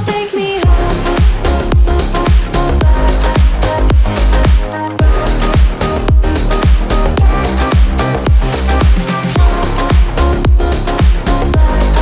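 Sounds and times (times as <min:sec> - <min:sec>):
electronic dance music: 0:00.0 - 0:12.0
kick drum beating: 0:00.6 - 0:11.8.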